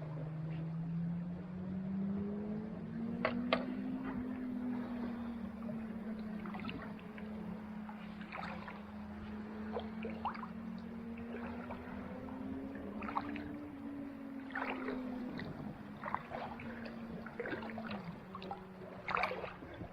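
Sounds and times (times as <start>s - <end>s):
steady low hum: 0.0s - 19.9s
paddle splashing in water: 3.2s - 19.9s
water dripping: 3.2s - 19.9s.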